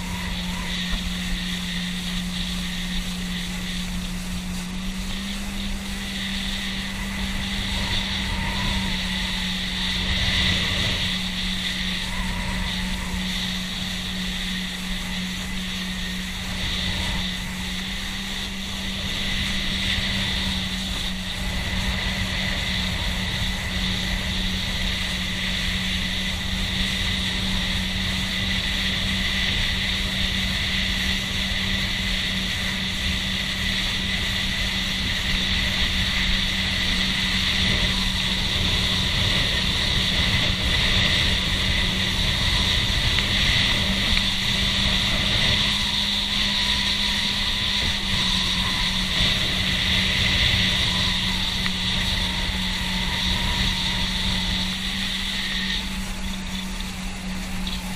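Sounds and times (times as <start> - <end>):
boat engine droning: 0.0 - 57.9
water rushing past hull: 0.0 - 57.9
wind noise: 0.0 - 57.9.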